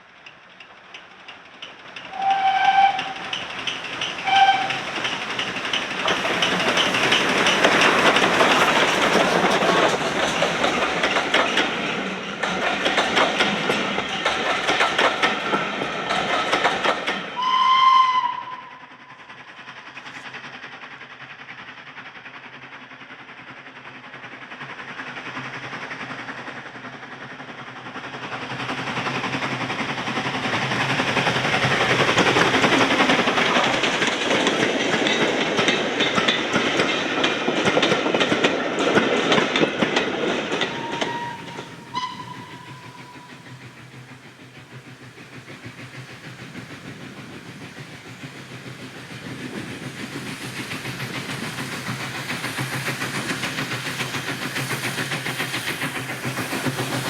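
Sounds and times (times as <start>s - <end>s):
train wheels clattering over joints: 0.2s - 17.5s, 19.0s - 57.0s.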